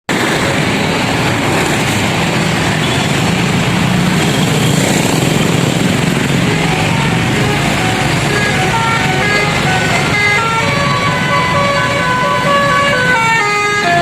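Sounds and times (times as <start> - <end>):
bus engine running: 0.1 - 14.0.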